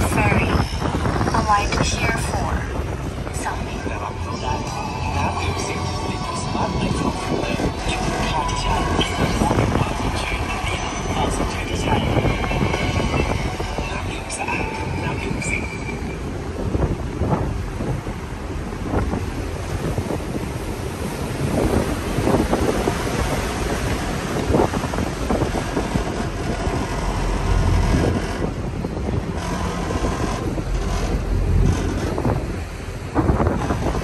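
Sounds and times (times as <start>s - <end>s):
boat engine rumble: 0.0s - 34.0s
water: 0.0s - 34.0s
wind buffeting microphone: 0.0s - 34.0s.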